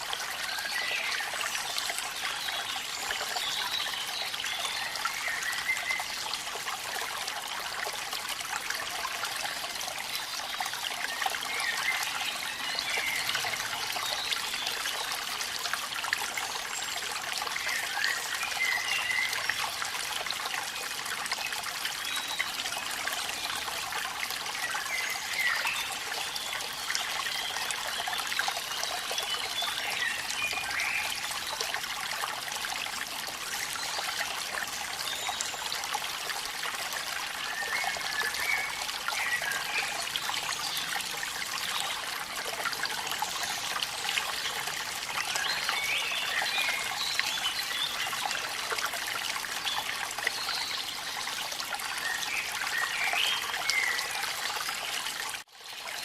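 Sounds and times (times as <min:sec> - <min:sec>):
running water trickling: 0:00.0 - 0:56.0.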